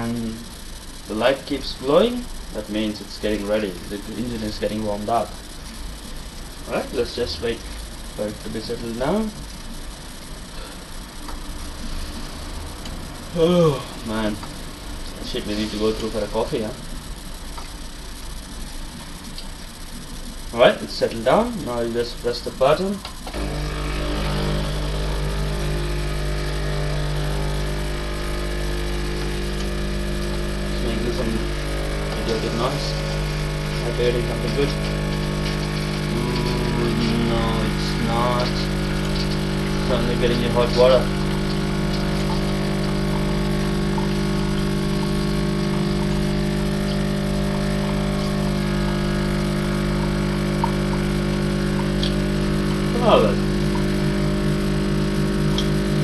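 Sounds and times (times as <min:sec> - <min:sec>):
coffee machine pump buzzing: 0:00.0 - 0:56.0.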